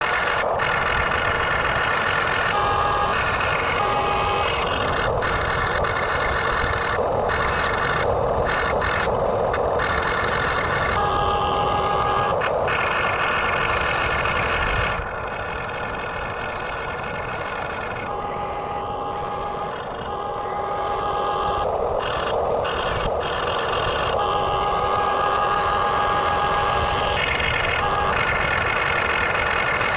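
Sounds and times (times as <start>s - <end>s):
small electric motors whining: 0.0s - 29.9s.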